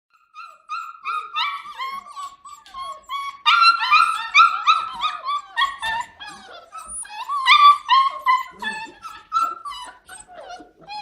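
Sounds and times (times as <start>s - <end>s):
puppies whining and yipping: 0.1s - 11.0s.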